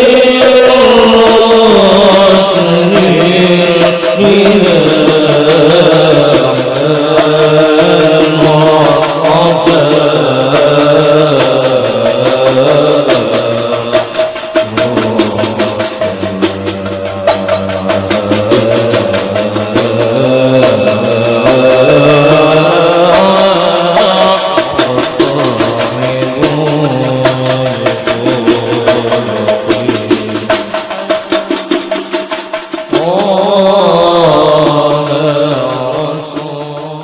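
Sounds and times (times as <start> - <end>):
frame drums beating: 0.0 - 37.0
men chanting in unison: 0.0 - 37.0.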